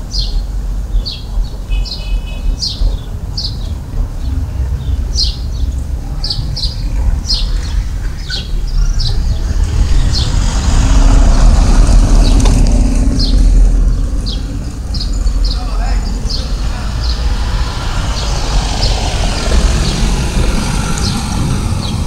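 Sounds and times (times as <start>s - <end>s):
small birds chirping: 0.0s - 22.0s
steady low rumble: 2.4s - 22.0s
motor vehicle passing: 2.6s - 22.0s.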